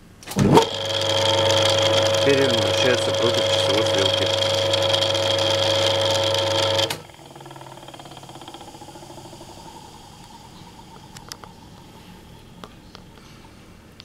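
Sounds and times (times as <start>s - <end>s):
motor winding down whir: 0.3s - 12.0s
electric motor humming and whining: 0.3s - 12.6s.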